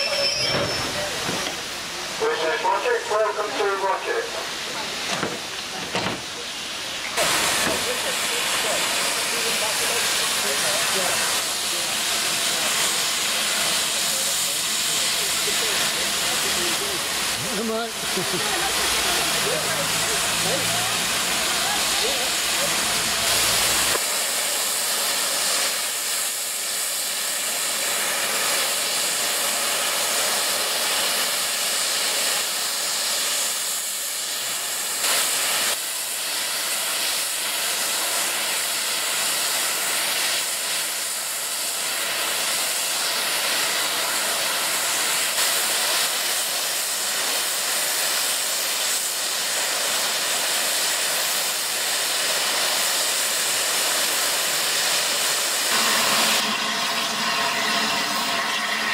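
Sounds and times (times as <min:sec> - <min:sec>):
steam hissing from locomotive: 0:00.0 - 0:58.9.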